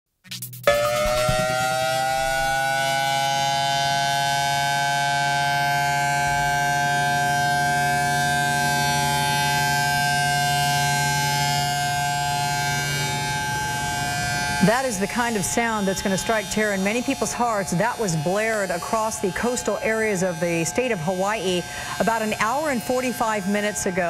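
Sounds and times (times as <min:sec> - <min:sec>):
warning siren steady tone: 0:00.6 - 0:24.0.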